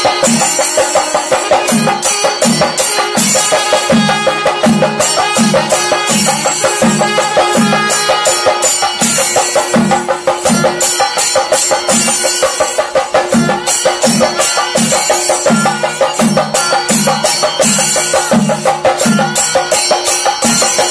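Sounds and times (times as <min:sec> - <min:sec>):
quick high drum strokes: 0:00.0 - 0:20.9.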